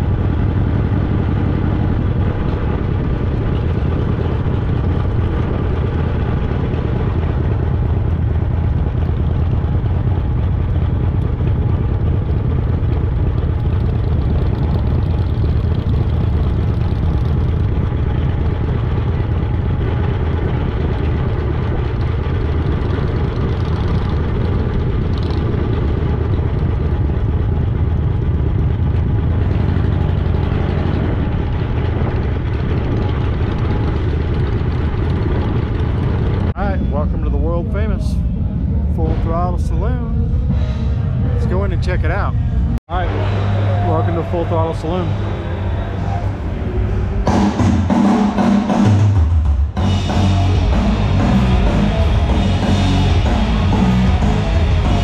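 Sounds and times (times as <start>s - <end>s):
motorcycle engine running at low speed: 0.0s - 55.0s.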